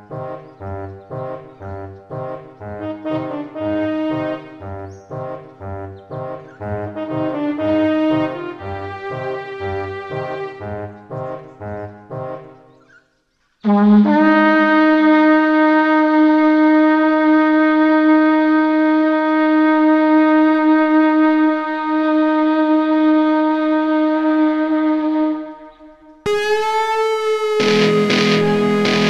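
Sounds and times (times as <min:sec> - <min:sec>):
blowing horn note: 0:00.0 - 0:09.8, 0:13.6 - 0:29.0.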